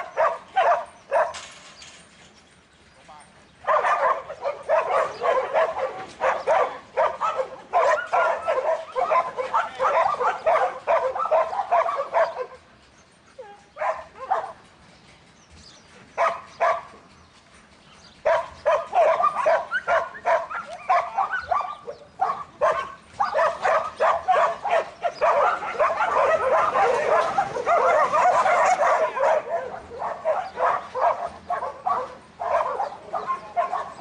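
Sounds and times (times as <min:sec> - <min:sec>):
dog barking and yipping: 0:00.0 - 0:01.6, 0:03.6 - 0:12.7, 0:13.4 - 0:14.7, 0:16.1 - 0:17.0, 0:18.2 - 0:34.0.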